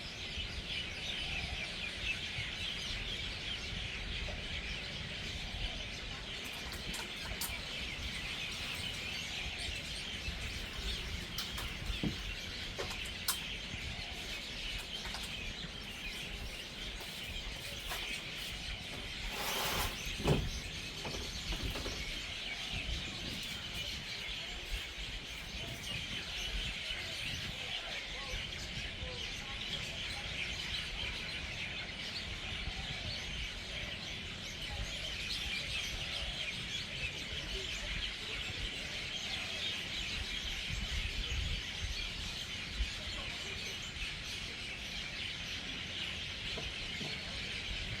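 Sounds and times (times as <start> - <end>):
chorus of birds chirping: 0.0 - 48.0.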